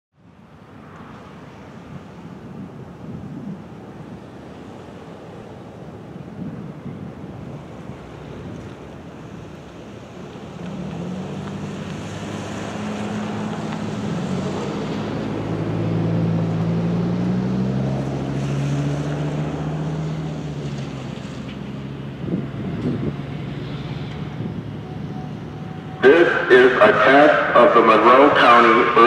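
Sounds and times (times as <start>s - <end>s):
wind buffeting microphone: 1.2s - 26.2s.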